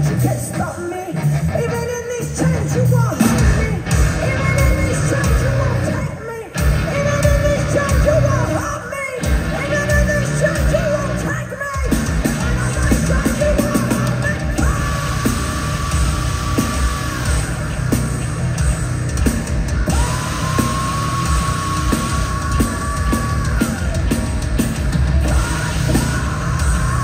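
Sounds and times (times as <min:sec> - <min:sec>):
metal band playing: 0:00.0 - 0:27.0
woman singing and yelling: 0:00.2 - 0:17.4, 0:19.9 - 0:24.0, 0:25.2 - 0:27.0.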